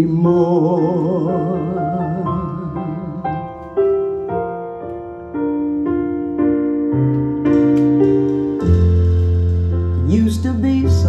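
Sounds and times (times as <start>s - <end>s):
slow piano ballad: 0.0s - 11.0s.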